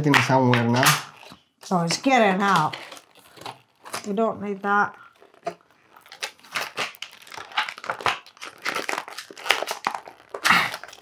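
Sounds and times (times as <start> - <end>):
plastic packaging crinkling: 0.7 - 11.0.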